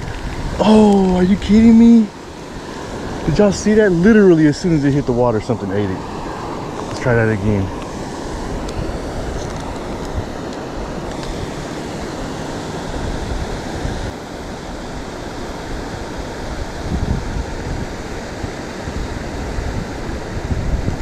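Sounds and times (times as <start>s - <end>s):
waterfall rushing: 0.0s - 20.4s
wind buffeting microphone: 0.0s - 21.0s.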